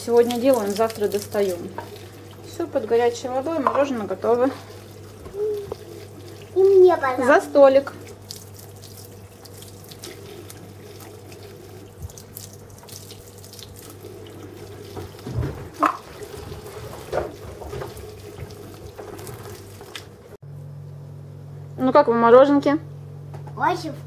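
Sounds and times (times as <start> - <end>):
tap water running into sink: 0.0 - 20.2.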